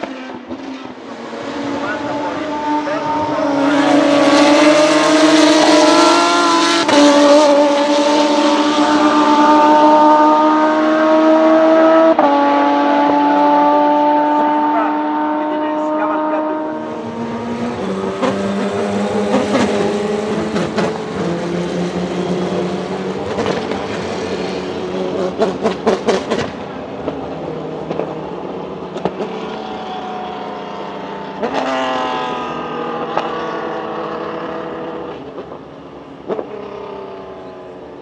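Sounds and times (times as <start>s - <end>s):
race car accelerating: 0.0s - 38.0s
race car engines: 0.0s - 38.0s.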